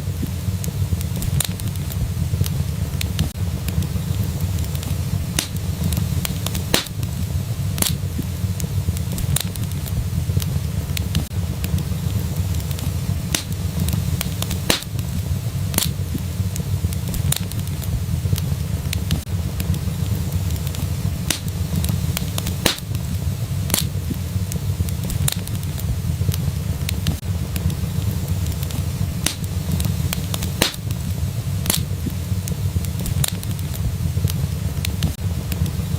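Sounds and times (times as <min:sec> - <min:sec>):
sharp pops of fire: 0:00.0 - 0:35.7
low rumble: 0:00.0 - 0:35.9
wood fire crackling: 0:00.0 - 0:35.9.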